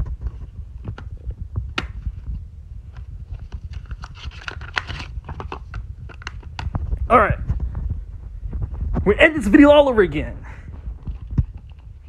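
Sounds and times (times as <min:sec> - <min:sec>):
low rumble of handling noise: 0:00.0 - 0:12.0.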